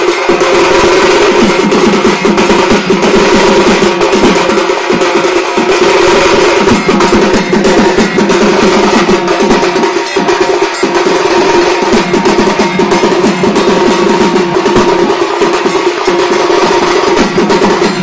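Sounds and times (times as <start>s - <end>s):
dhol drum: 0.0s - 18.0s
small stick-beaten drum: 0.0s - 18.0s
snare drum: 0.0s - 18.0s.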